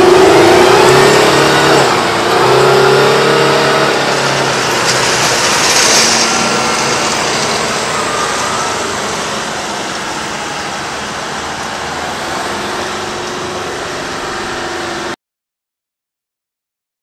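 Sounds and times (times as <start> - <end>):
truck diesel engine running: 0.0 - 15.2.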